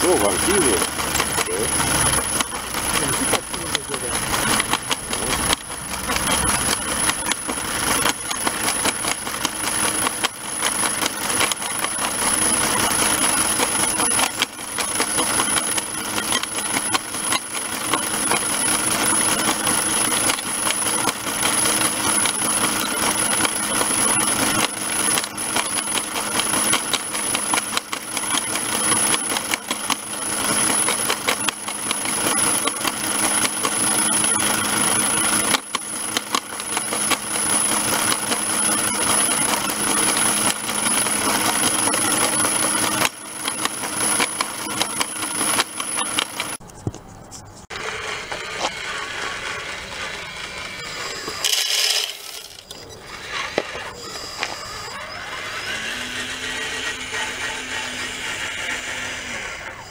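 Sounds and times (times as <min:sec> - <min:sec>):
electric motor whine: 0:00.0 - 0:46.6, 0:47.6 - 0:59.9
gravel rattling through crusher: 0:00.0 - 0:46.6, 0:47.6 - 0:58.6.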